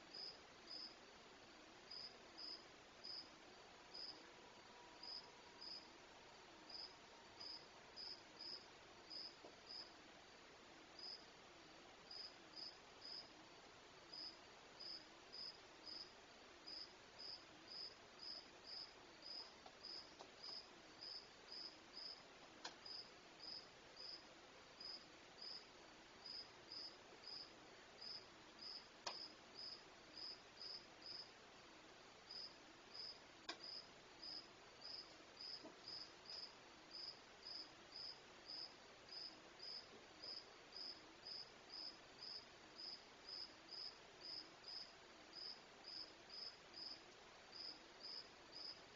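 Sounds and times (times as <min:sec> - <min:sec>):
cricket chirping: 0:00.1 - 0:01.0, 0:01.9 - 0:03.3, 0:03.9 - 0:04.2, 0:05.0 - 0:05.8, 0:06.7 - 0:10.0, 0:11.0 - 0:11.3, 0:12.1 - 0:13.3, 0:14.1 - 0:22.2, 0:22.8 - 0:24.2, 0:24.8 - 0:31.3, 0:32.3 - 0:48.8.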